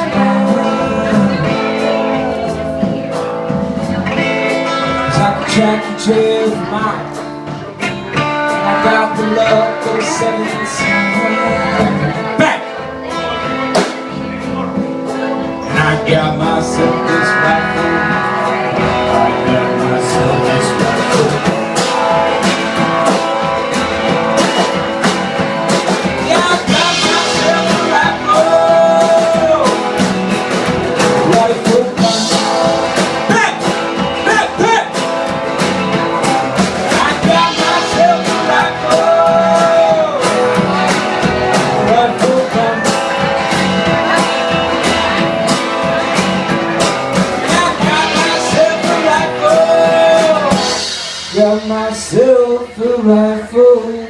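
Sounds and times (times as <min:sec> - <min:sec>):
bending lead guitar notes: 0:00.0 - 0:53.9
rock and roll band playing: 0:00.0 - 0:54.0.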